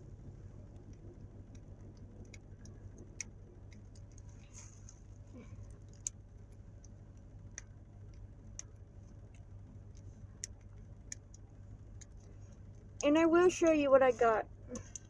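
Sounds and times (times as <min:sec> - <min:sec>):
low car cabin hum: 0:00.0 - 0:15.0.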